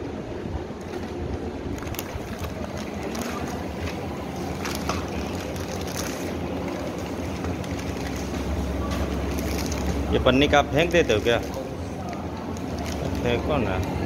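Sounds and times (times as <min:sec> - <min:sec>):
steady low rumble: 0:00.0 - 0:14.0
plastic wrapping crinkling: 0:00.9 - 0:14.0.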